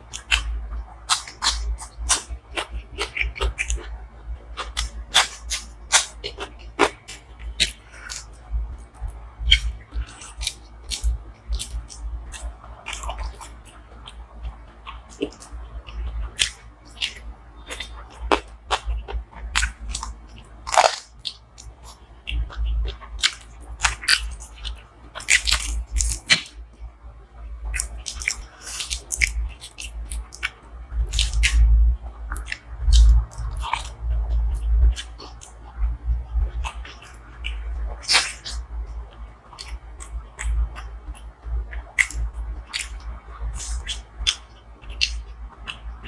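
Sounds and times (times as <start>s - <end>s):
chewing and wet mouth sounds: 0.0s - 46.0s
sharp mouth clicks and smacks: 0.1s - 0.5s, 1.1s - 3.9s, 4.6s - 8.3s, 9.0s - 26.6s, 27.7s - 31.6s, 32.3s - 35.7s, 36.4s - 38.6s, 39.5s - 45.9s.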